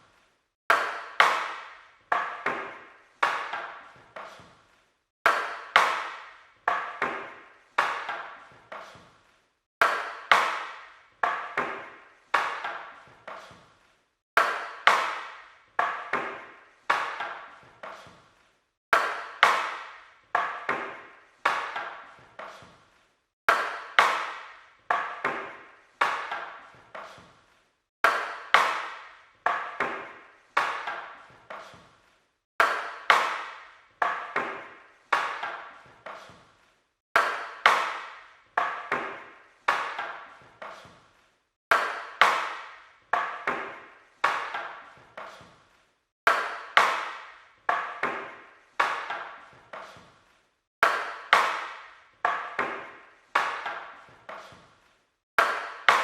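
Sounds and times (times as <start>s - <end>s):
wooden weapons clacking: 0.7s - 4.5s, 5.3s - 9.0s, 9.8s - 13.5s, 14.4s - 18.2s, 19.0s - 22.7s, 23.5s - 27.3s, 28.1s - 31.8s, 32.6s - 36.5s, 37.2s - 41.0s, 41.7s - 45.6s, 46.3s - 50.2s, 50.8s - 54.7s, 55.4s - 56.0s.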